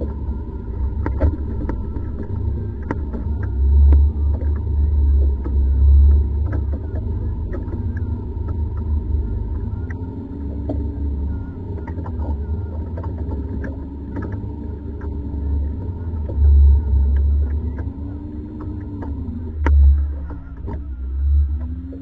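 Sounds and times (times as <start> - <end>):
boat engine low rumble: 0.0 - 22.0
faint rising and falling hum: 0.0 - 22.0
low buffeting: 0.0 - 22.0.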